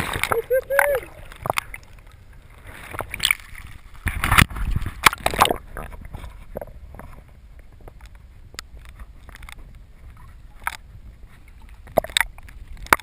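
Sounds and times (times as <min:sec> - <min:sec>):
water splashing against kayak: 0:00.0 - 0:13.0.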